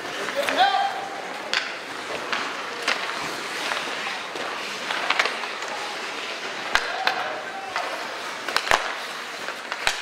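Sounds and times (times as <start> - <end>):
hockey sticks and puck clacking: 0.0 - 10.0
skate blades scraping ice: 0.0 - 10.0.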